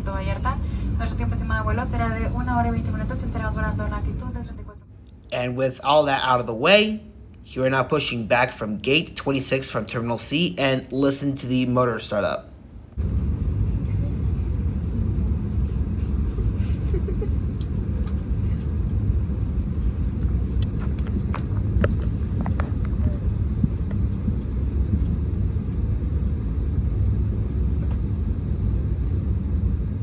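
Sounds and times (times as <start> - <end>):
low cabin engine rumble: 0.0 - 4.7, 5.4 - 30.0.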